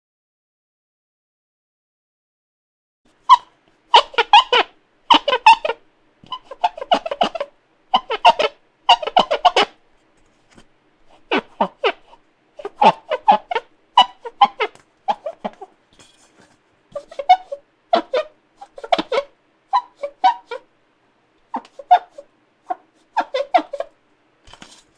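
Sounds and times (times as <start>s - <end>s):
squeaky wiping on hard surface: 3.2s - 20.7s, 21.5s - 24.0s.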